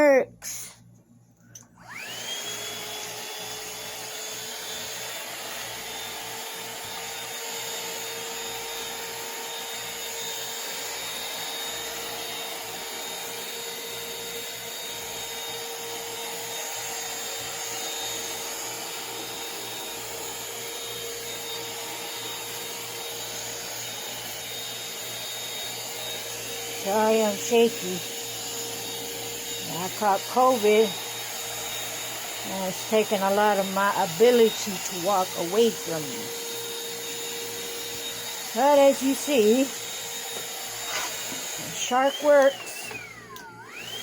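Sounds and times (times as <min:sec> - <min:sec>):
cordless vacuum mop running: 0:01.8 - 0:44.0.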